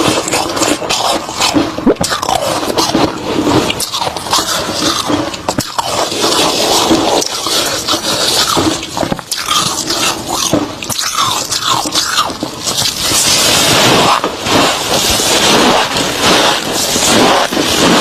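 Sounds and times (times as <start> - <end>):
crunchy chewing of frost: 0.0 - 18.0.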